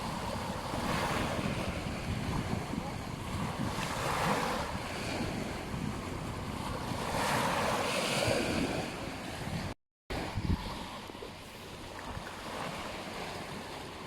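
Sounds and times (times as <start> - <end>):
ocean surf washing onto beach: 0.0 - 14.0
wind rumbling on microphone: 0.0 - 14.0.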